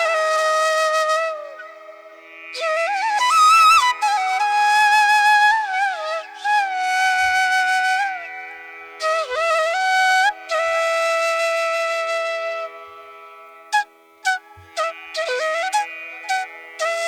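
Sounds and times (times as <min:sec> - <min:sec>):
flute music: 0:00.0 - 0:08.3, 0:09.0 - 0:17.0.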